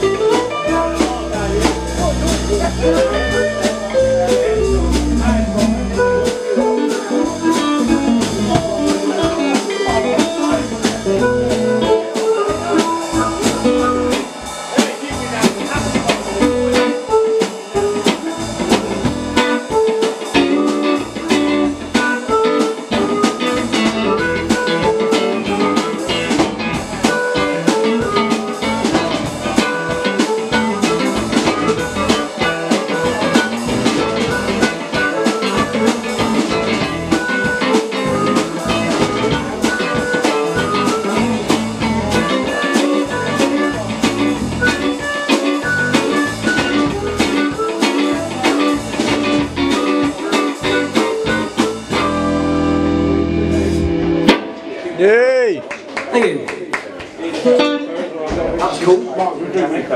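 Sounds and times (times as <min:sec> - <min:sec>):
drum kit: 0:00.0 - 0:55.2
bass guitar: 0:00.0 - 0:55.4
lead guitar: 0:00.0 - 0:55.6, 0:57.2 - 0:58.3.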